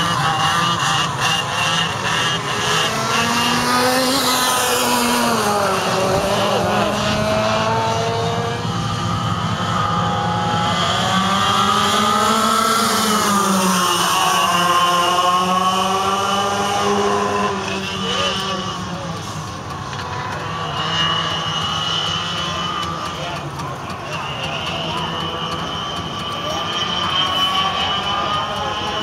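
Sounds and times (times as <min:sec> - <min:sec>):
racing kart engines: 0:00.0 - 0:29.0.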